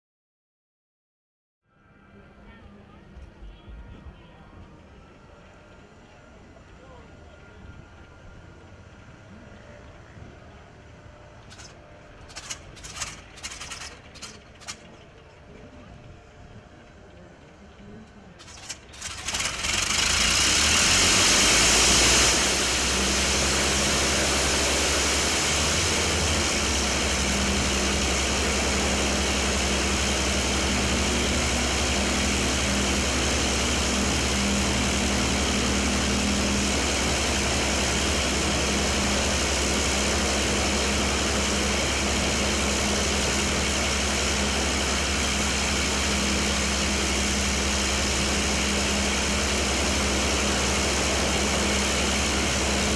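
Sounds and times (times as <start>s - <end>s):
aircraft engine starting and idling: 1.7s - 52.9s.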